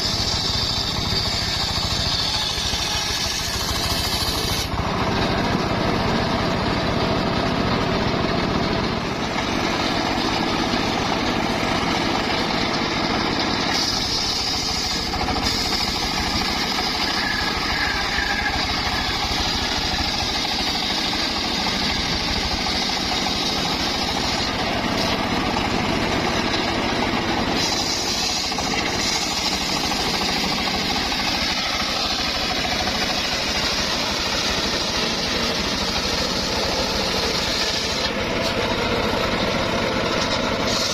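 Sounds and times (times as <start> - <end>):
circular saw cutting timber: 0.0 - 40.9.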